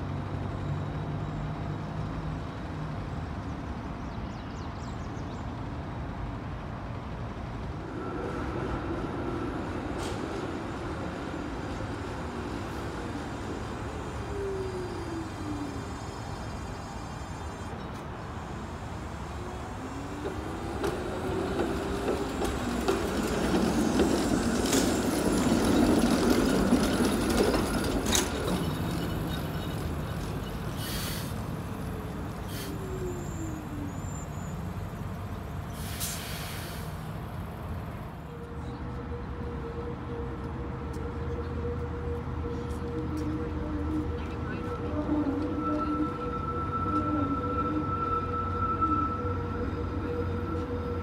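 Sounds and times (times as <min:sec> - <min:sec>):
streetcar wheels and motors rumbling: 0:00.0 - 0:51.0.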